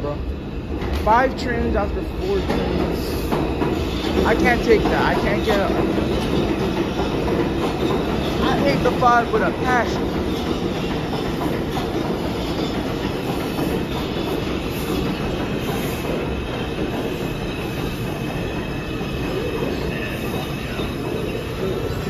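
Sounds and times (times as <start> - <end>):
subway train wheels rumbling on rail: 0.0 - 22.0
high wheel squeal: 2.2 - 22.0.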